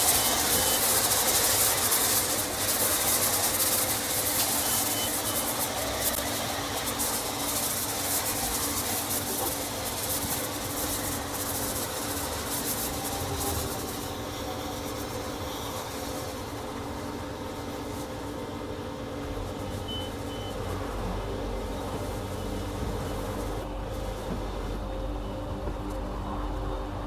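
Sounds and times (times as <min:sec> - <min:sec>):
pressure washer spraying hiss: 0:00.0 - 0:25.0
machine hum: 0:00.0 - 0:27.0.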